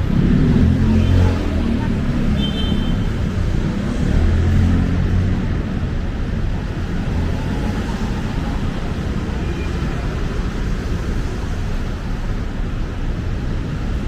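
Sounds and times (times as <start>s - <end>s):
traffic engines rumbling: 0.0s - 14.0s.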